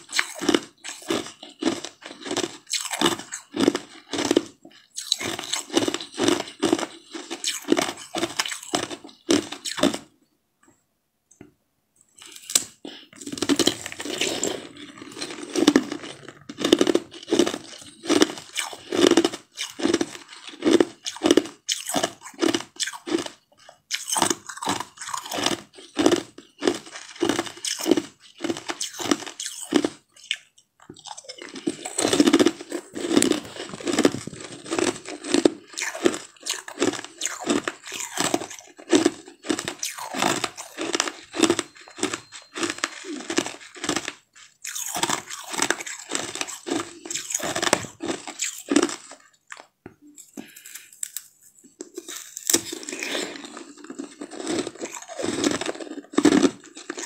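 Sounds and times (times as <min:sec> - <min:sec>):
crunching and chewing ice treats: 0:00.0 - 0:10.2, 0:12.1 - 0:57.0.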